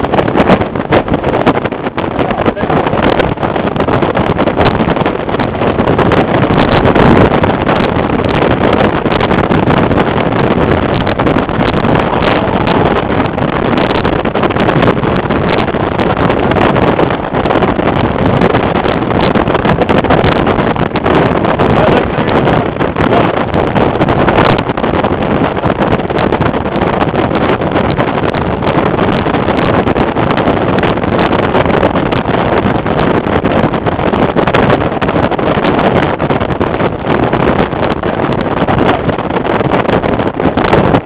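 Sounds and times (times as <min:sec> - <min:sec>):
tyre and road noise: 0:00.0 - 0:41.0
wind buffeting microphone: 0:00.0 - 0:41.0.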